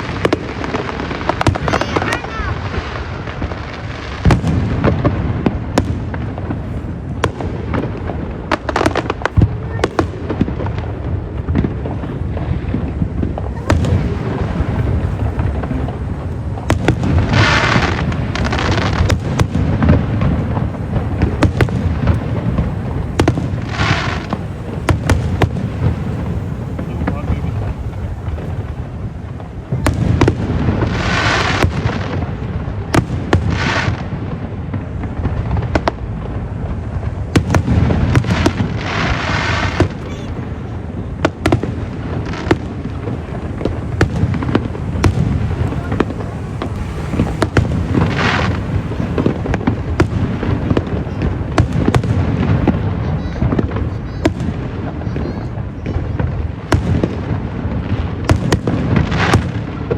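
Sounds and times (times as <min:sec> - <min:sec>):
fireworks bangs: 0:00.0 - 0:59.9
hissing crackle of fireworks: 0:00.0 - 0:59.9.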